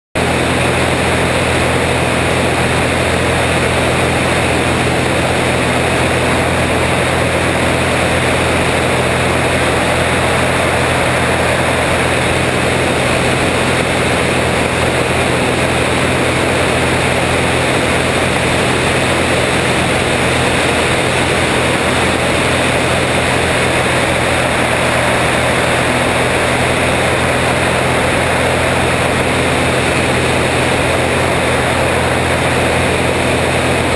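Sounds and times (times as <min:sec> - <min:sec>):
propeller plane engine drone: 0:00.2 - 0:33.9
wind rushing over microphone: 0:00.2 - 0:33.9.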